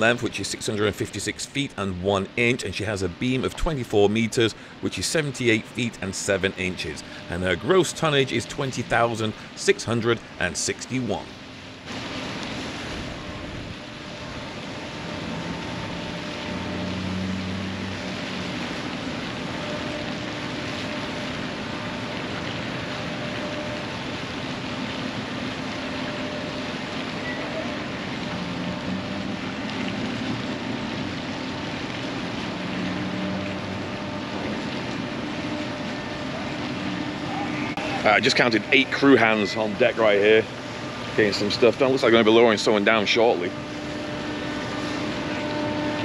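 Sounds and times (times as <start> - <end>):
rush of wind and water: 0.0 - 46.0
ship engine hum: 0.0 - 46.0.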